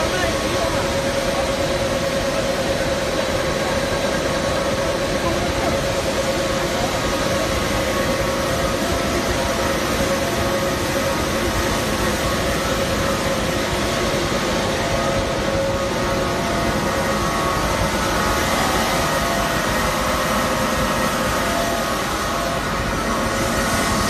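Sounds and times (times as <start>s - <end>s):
machine humming and whining: 0.0s - 24.0s.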